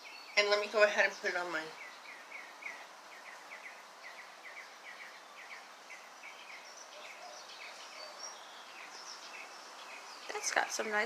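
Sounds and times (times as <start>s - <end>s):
bird chirping: 0.0s - 11.0s
steady background hiss: 0.0s - 11.0s.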